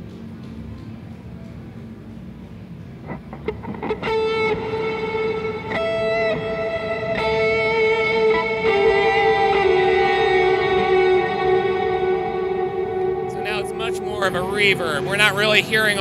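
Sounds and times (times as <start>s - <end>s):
electric guitar with reverb: 3.0s - 16.0s.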